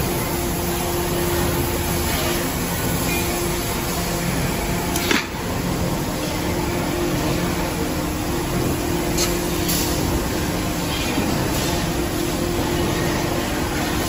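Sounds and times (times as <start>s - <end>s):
metal spinning machine hum: 0.0s - 14.0s.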